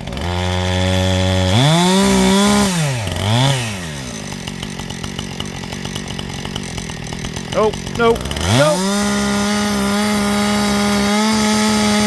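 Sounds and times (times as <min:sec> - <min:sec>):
chainsaw revving: 0:00.0 - 0:12.0.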